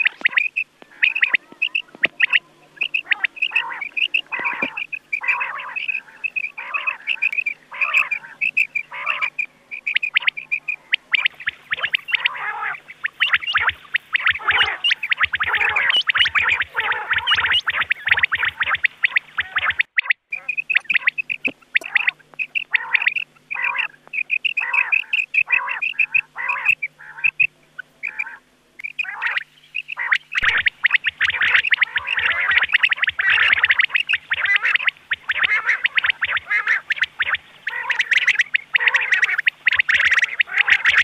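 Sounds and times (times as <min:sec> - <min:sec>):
quail calls: 0:00.0 - 0:41.0.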